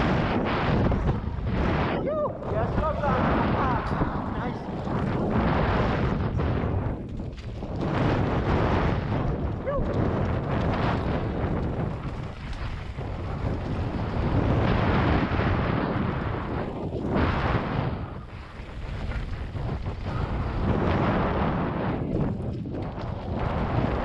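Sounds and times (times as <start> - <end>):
bike tyres rolling over gravel: 0.0 - 24.0
wind rushing over microphone: 0.0 - 24.0.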